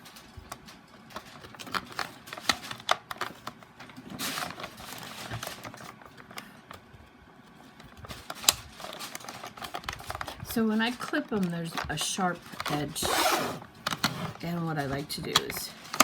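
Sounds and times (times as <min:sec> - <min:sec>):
packaging rustle: 0:00.0 - 0:16.0.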